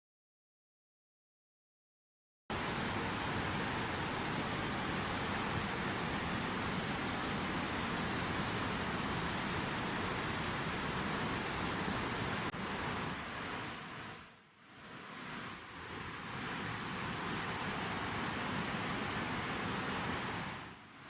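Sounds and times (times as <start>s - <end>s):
steady rushing noise: 2.5s - 21.0s.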